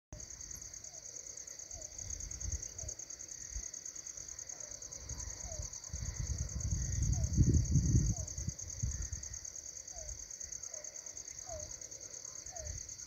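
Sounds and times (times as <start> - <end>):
high-pitched insect chorus: 0.2 - 13.0.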